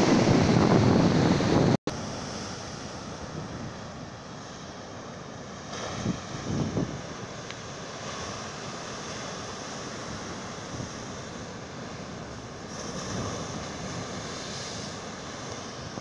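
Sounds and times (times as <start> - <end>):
ocean surf breaking on rocky shore: 0.0 - 16.0.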